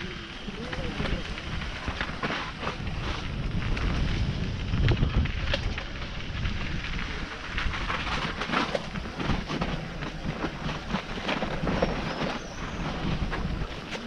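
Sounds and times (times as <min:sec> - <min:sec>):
bike clattering over rough ground: 0:00.0 - 0:14.0
wind on microphone: 0:00.0 - 0:14.0.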